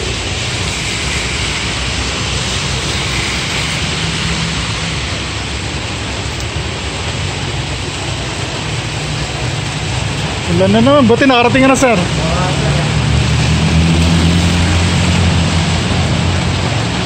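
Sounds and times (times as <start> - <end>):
steady rain: 0.0 - 17.0
tyres hissing on wet road: 0.0 - 17.0.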